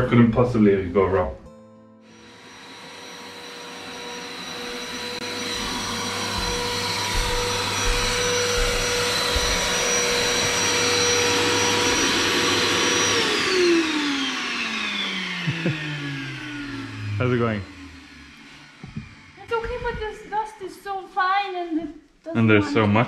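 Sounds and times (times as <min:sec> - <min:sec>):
shop vacuum motor whine: 0:02.0 - 0:21.6, 0:22.4 - 0:23.0
motor spinning down: 0:02.1 - 0:21.6.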